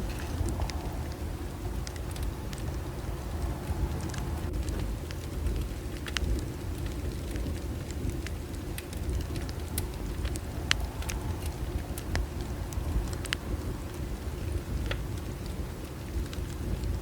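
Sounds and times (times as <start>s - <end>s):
bonfire flames rumbling: 0.0s - 17.0s
burning wood crackling and popping: 0.0s - 17.0s.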